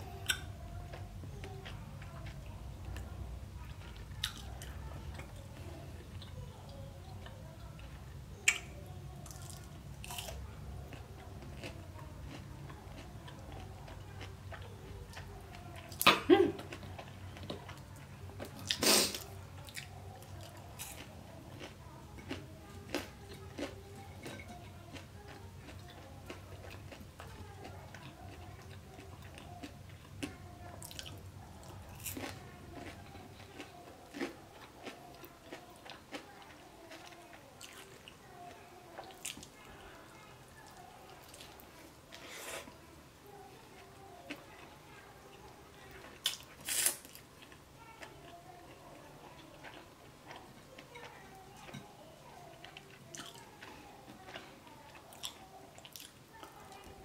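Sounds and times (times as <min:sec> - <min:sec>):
chewing and biting food: 0:07.2 - 0:39.8, 0:43.7 - 0:57.0.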